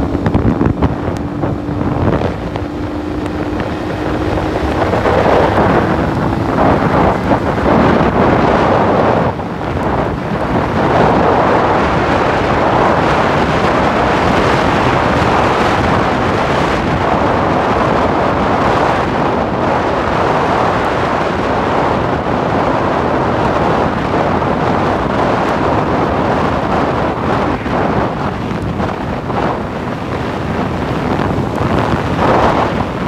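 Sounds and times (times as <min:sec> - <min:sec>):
road noise: 0:00.0 - 0:33.0
wind noise on microphone: 0:00.0 - 0:33.0.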